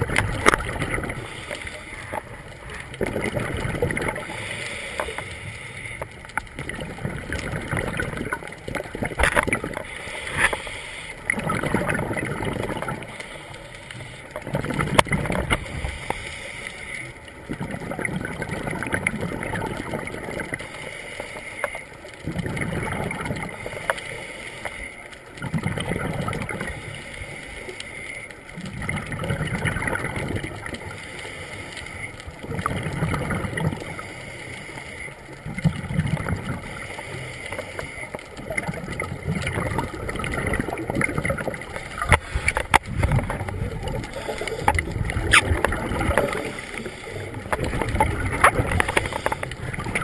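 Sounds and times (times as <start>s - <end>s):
diver regulator bubbly breathing: 0.0s - 50.0s.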